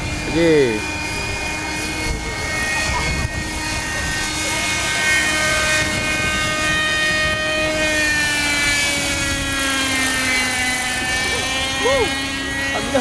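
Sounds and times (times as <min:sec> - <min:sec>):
model helicopter engine whine: 0:00.0 - 0:13.0.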